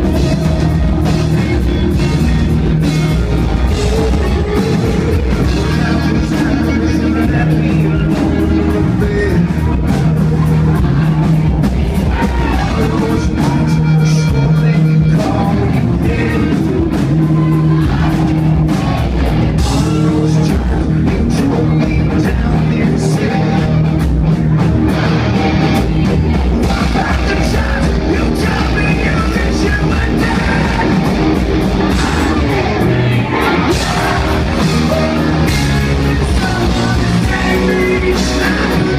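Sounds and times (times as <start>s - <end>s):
man singing: 0.0s - 18.7s, 19.5s - 38.9s
drums: 0.0s - 38.9s
electric guitars: 0.0s - 38.9s.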